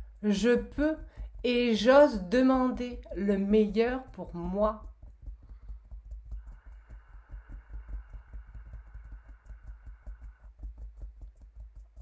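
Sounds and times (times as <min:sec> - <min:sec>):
faint steady hum: 0:00.0 - 0:12.0
fingertips tapping on body: 0:00.0 - 0:12.0.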